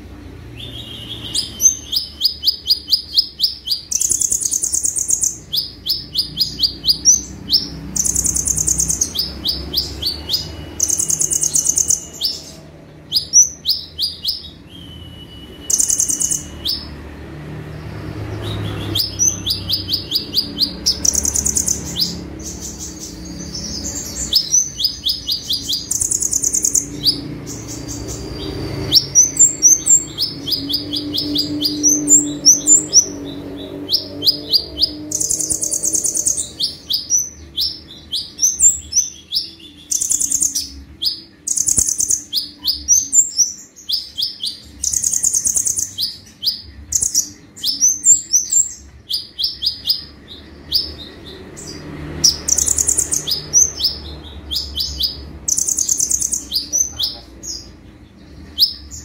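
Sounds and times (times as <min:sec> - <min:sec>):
bird rapid chirps and trills: 0:00.0 - 0:59.0.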